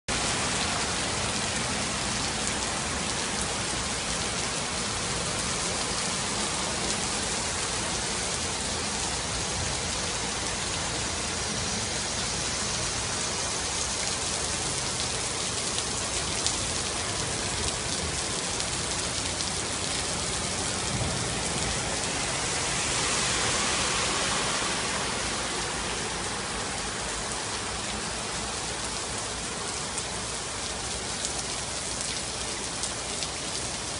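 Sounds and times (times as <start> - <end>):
heavy rain on street: 0.1 - 33.9.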